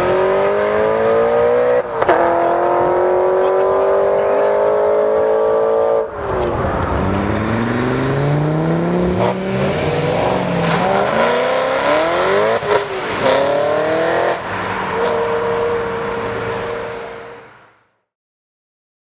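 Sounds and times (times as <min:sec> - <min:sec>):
car engine accelerating hard: 0:00.0 - 0:17.4.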